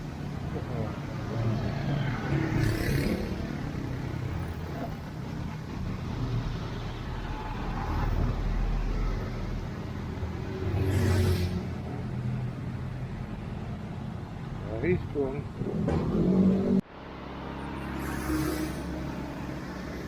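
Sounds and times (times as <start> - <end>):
car engines running: 0.0 - 20.0
vehicles passing: 0.0 - 20.0.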